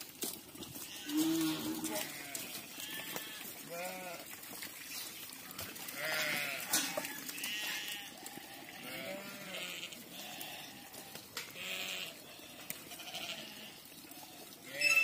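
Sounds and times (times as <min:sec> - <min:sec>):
sheep bleating: 0:00.8 - 0:04.3, 0:05.9 - 0:15.0.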